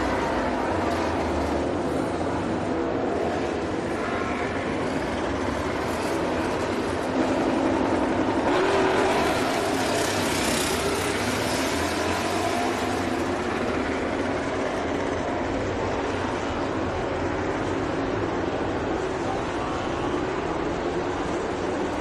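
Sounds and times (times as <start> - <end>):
motor vehicle rumble and hiss: 0.0 - 22.0.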